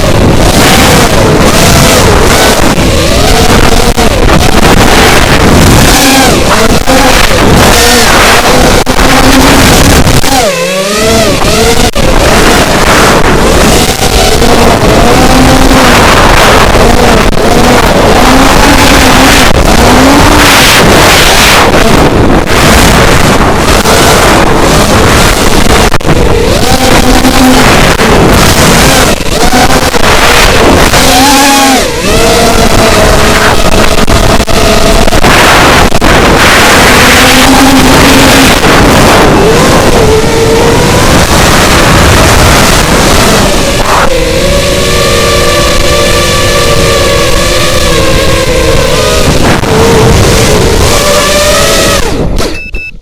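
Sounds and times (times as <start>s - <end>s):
wind rush on microphone: 0.0s - 52.9s
quadcopter motors whining: 0.0s - 53.0s.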